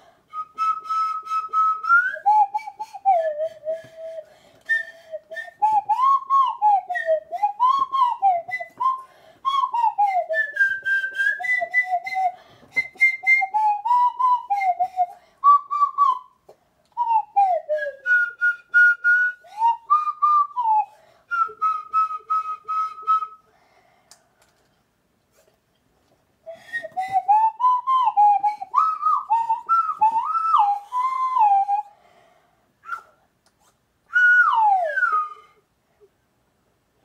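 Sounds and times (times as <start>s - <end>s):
toy whistle tune: 0.3s - 16.4s, 17.0s - 23.5s, 26.5s - 31.9s, 32.8s - 33.2s, 34.1s - 35.6s.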